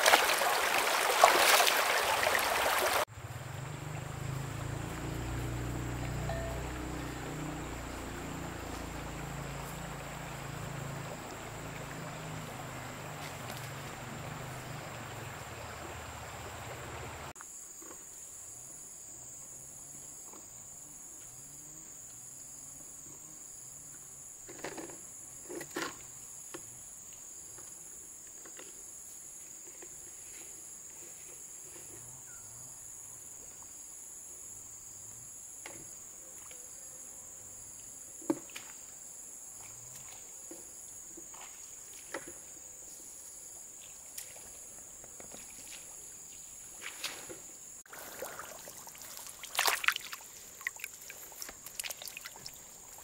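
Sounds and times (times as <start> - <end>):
insects droning: 0.0 - 53.0
pulsing insect chirp: 1.7 - 53.0.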